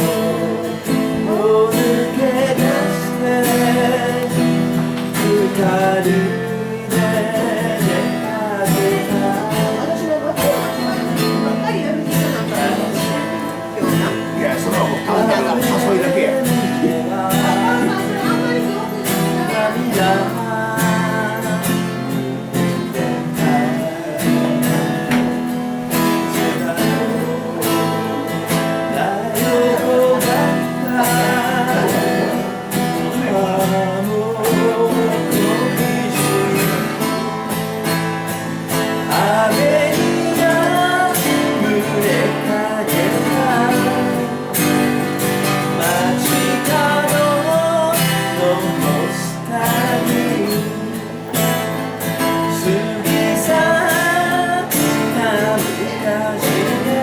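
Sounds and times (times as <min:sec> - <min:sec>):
acoustic guitar strumming: 0:00.0 - 0:57.0
person singing folk song: 0:00.0 - 0:57.0.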